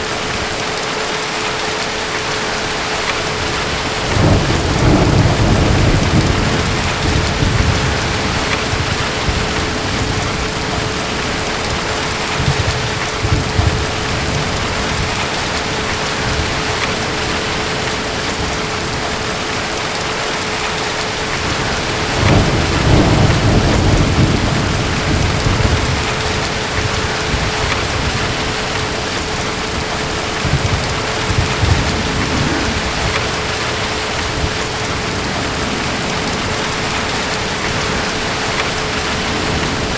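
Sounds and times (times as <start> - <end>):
steady rain: 0.0 - 39.9
distant thunder rolling: 3.0 - 19.8, 21.3 - 39.9.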